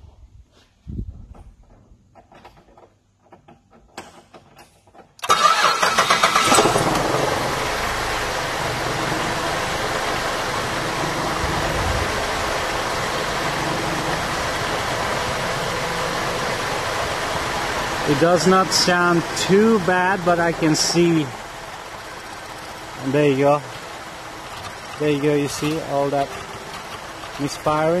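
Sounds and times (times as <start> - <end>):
car engine starting and idling: 3.8 - 28.0.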